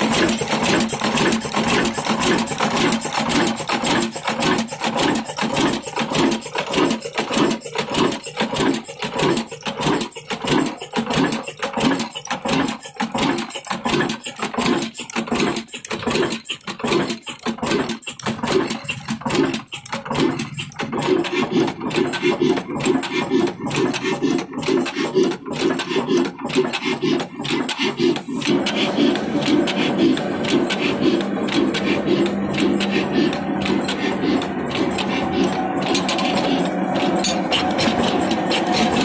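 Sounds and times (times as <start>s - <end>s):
stationary diesel engine running: 0.0s - 39.0s.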